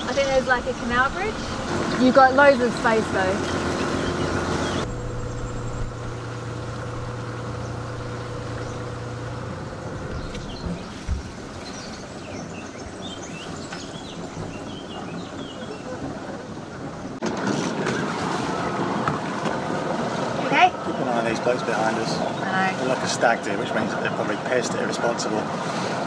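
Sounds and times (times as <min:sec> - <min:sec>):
birds chirping: 0:00.0 - 0:17.2, 0:20.1 - 0:26.0
boat engine running: 0:00.0 - 0:26.0
engine and wind rush: 0:00.0 - 0:26.0.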